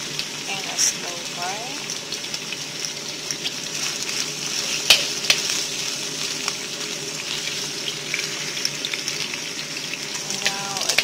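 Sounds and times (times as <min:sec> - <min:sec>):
onions sizzling in a frying pan: 0:00.0 - 0:11.0.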